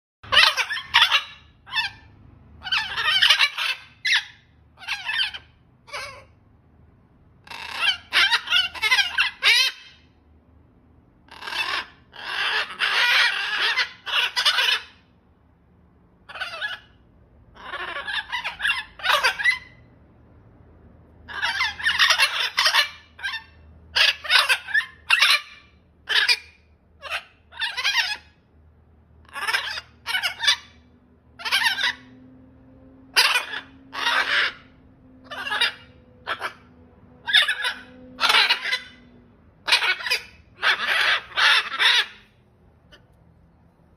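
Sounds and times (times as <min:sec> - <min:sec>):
macaws squawking: 0:00.2 - 0:06.3, 0:07.4 - 0:10.0, 0:11.3 - 0:15.1, 0:16.3 - 0:17.0, 0:17.6 - 0:19.9, 0:21.2 - 0:28.4, 0:29.2 - 0:32.2, 0:33.1 - 0:43.1.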